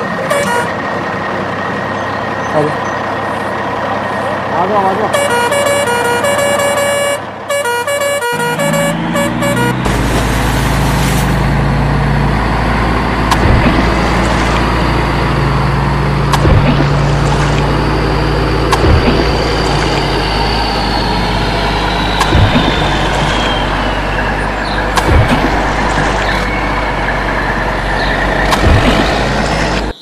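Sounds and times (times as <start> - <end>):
truck engine humming: 0.0 - 30.0.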